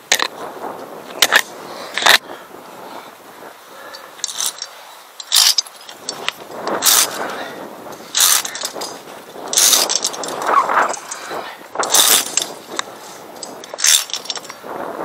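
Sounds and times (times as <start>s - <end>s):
carabiners scraping along steel cable: 0.0s - 0.5s, 1.1s - 2.2s, 3.8s - 14.8s.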